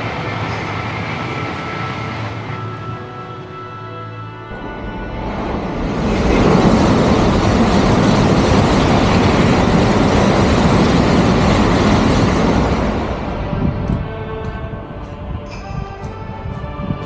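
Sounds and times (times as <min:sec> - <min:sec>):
bullet train passing: 0:00.0 - 0:17.0.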